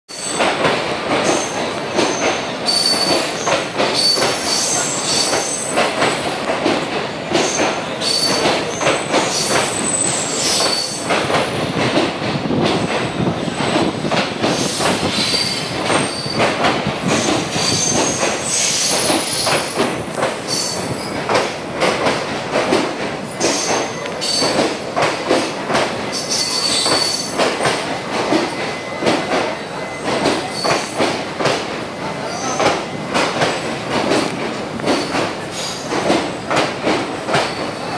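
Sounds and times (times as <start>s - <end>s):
train rattling and clattering: 0.1s - 37.9s.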